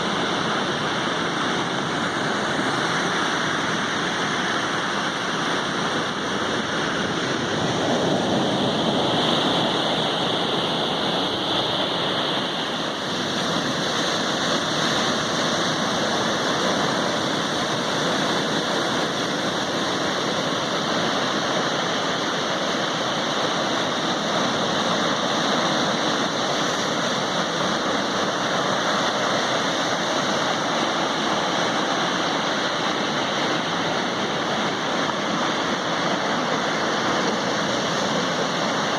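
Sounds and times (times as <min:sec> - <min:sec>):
sea waves breaking: 0:00.0 - 0:38.9.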